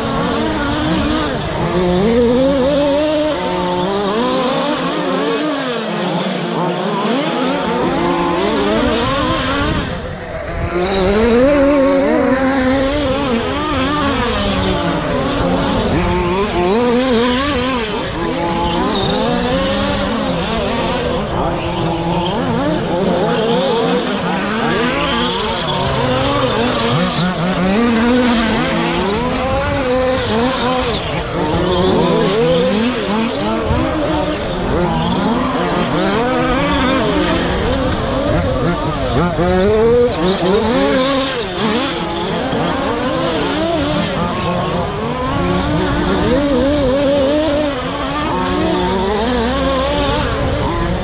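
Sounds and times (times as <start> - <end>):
rc truck motors whining: 0.0 - 51.0.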